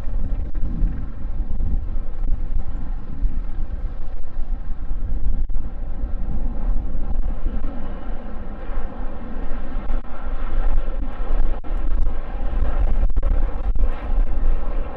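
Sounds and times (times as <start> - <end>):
jet engines running: 0.0 - 14.9
wind rumble on microphone: 0.0 - 14.9.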